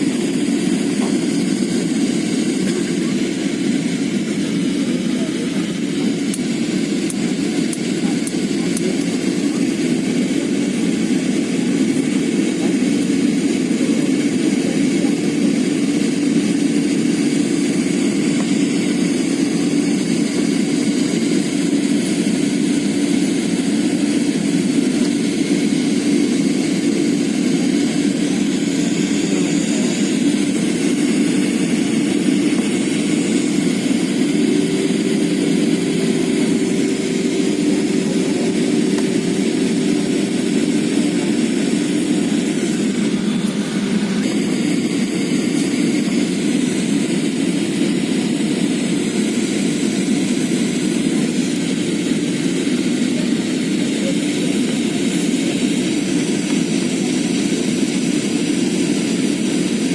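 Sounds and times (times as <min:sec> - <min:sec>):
aeroplane engine hum: 0:00.0 - 0:59.9
airflow rush in cabin: 0:00.0 - 0:59.9.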